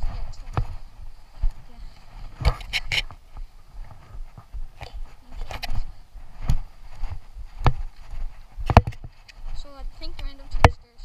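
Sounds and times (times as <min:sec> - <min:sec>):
footsteps on dirt trail: 0:00.0 - 0:11.0.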